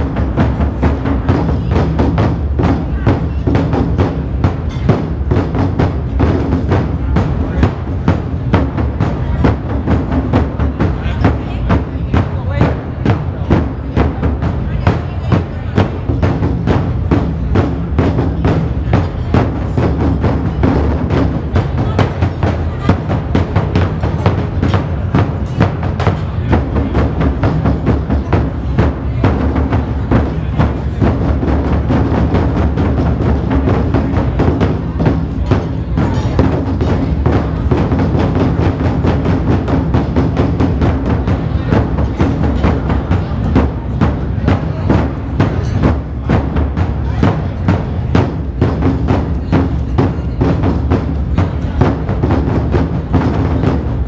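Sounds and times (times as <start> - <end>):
barrel drums beaten fast: 0.0 - 54.0.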